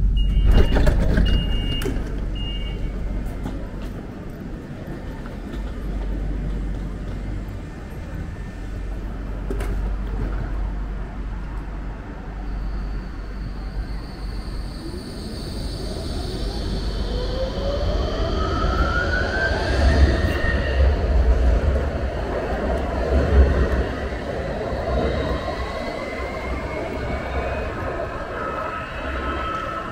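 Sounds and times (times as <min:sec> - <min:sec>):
tram low hum: 0:00.0 - 0:29.9.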